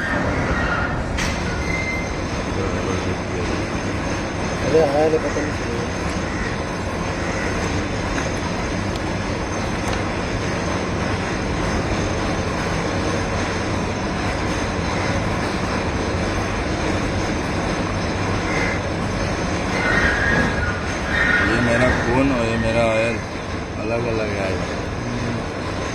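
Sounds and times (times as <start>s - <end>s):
steady mechanical rumble: 0.0s - 25.9s.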